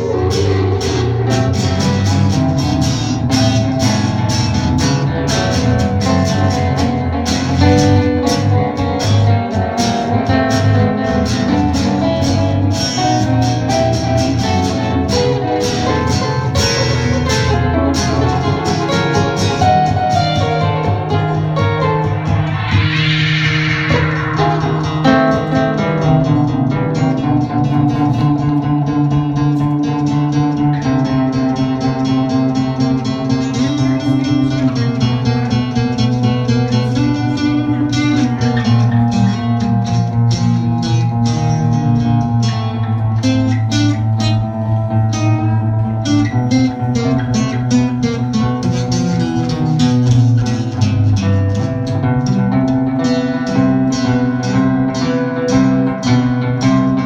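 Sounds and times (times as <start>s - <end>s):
acoustic band playing: 0.0s - 57.0s
plucked guitars: 0.0s - 57.0s.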